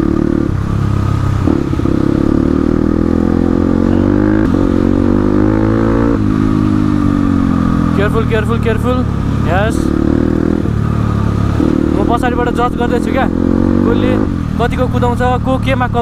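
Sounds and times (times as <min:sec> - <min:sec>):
dirt bike engine revving: 0:00.0 - 0:14.7.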